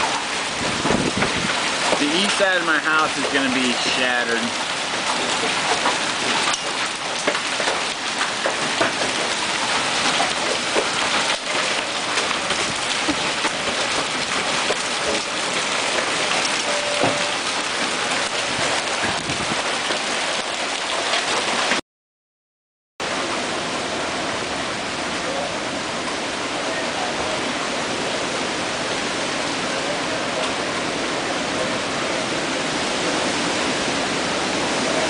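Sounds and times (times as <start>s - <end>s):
heavy rain and hail roaring: 0.0s - 21.8s, 23.0s - 35.0s.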